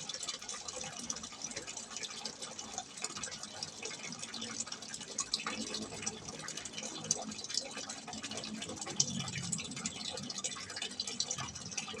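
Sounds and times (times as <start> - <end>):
water splashing from spout: 0.0 - 12.0.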